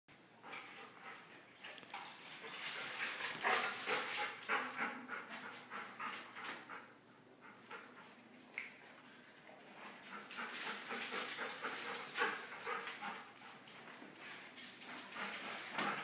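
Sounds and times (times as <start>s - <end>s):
dogs play-fighting: 0.4s - 16.0s.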